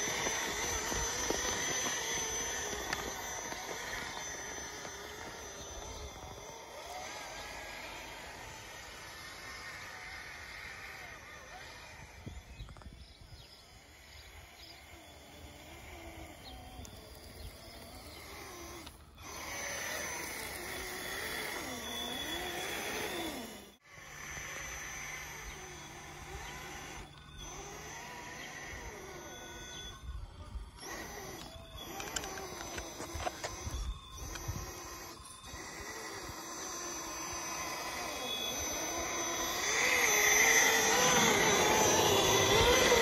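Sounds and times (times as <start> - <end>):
electric motor whining: 0.0 - 43.0.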